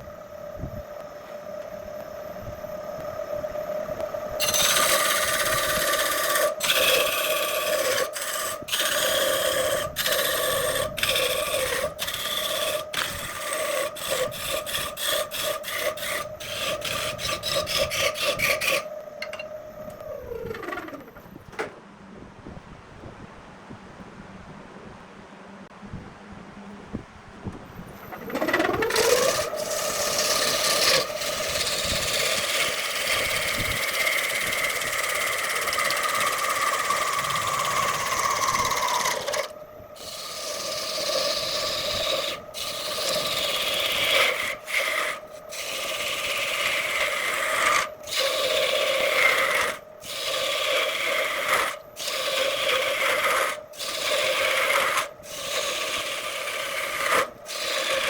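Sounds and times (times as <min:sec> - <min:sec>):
power tool motor whine: 0:00.0 - 0:21.6, 0:27.8 - 0:58.0
abrasive scraping of wood: 0:04.4 - 0:21.4, 0:28.0 - 0:58.0.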